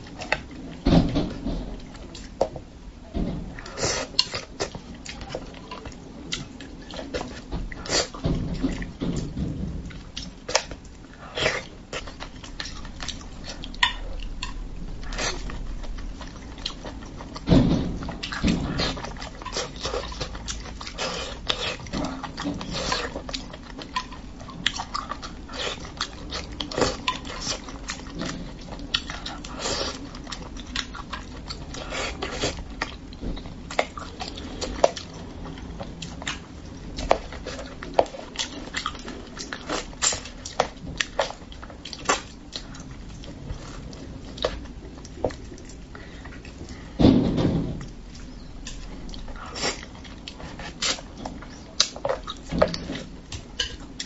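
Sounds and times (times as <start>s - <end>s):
wet chewing: 3.4s - 47.2s, 47.8s - 54.0s.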